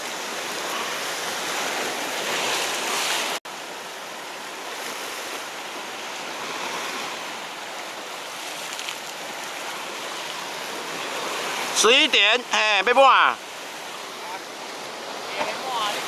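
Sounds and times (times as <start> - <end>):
surf washing against rocks: 0.0 - 16.0.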